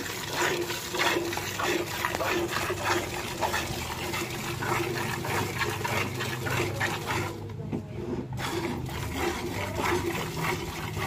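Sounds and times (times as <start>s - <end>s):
milk squirting into bucket: 0.0s - 7.5s, 8.3s - 11.0s.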